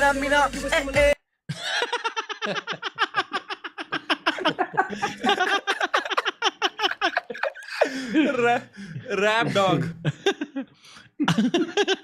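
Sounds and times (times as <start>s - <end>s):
men laughing: 1.5s - 12.0s.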